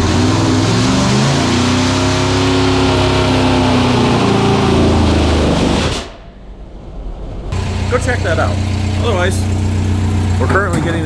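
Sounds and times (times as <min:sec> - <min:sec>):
car engine revving: 0:00.0 - 0:06.0, 0:07.6 - 0:11.0.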